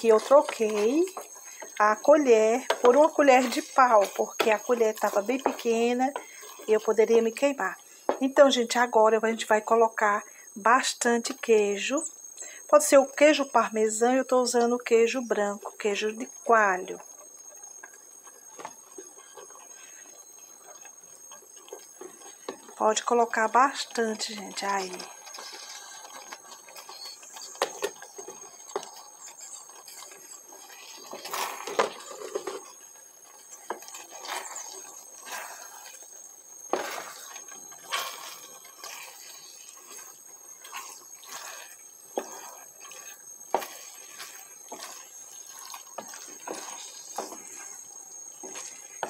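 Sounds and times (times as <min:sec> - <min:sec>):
wet squelching of stirred pasta: 0:00.0 - 0:08.6, 0:14.6 - 0:27.4, 0:28.0 - 0:49.0
spoon scraping against a pan: 0:00.1 - 0:08.2, 0:17.0 - 0:36.1, 0:36.7 - 0:49.0.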